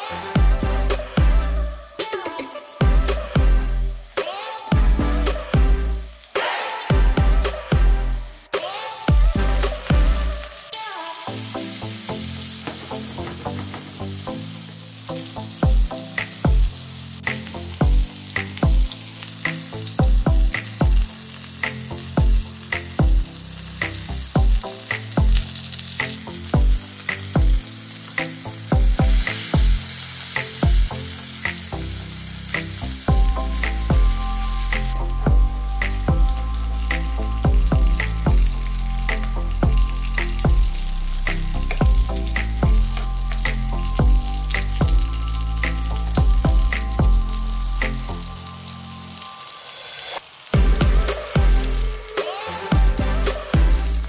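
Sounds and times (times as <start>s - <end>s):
food sizzling in a pan: 0.0s - 54.0s
music with thumping beat: 0.4s - 2.2s, 2.8s - 10.3s, 12.6s - 14.4s, 15.6s - 27.6s, 28.2s - 29.8s, 30.4s - 30.9s, 32.6s - 48.1s, 50.6s - 54.0s.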